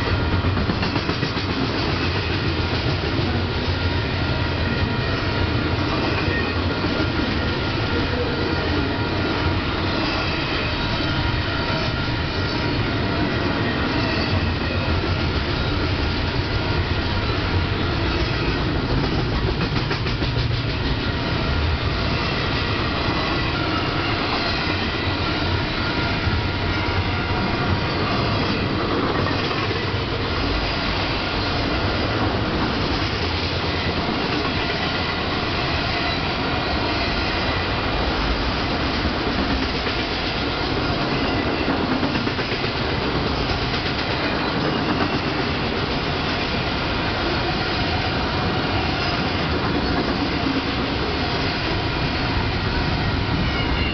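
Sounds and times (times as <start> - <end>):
freight train rolling past: 0.0 - 53.9.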